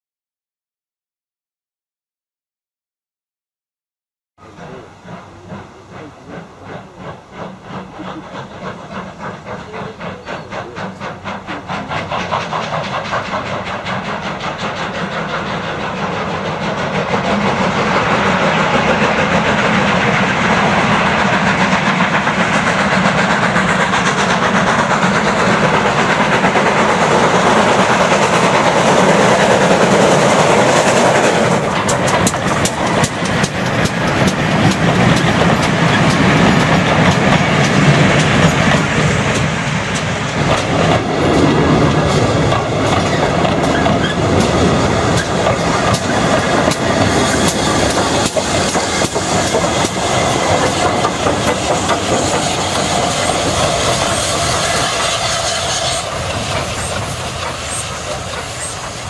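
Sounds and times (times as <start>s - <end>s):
steam locomotives working: 4.4s - 59.0s
train wheels clicking over rail joints: 4.5s - 59.0s.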